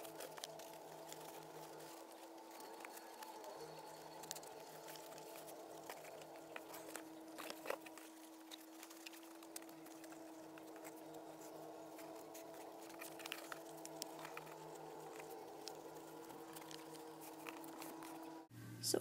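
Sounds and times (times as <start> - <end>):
cardboard and sticks clicking: 0.0 - 18.3
steady hum: 0.0 - 19.0.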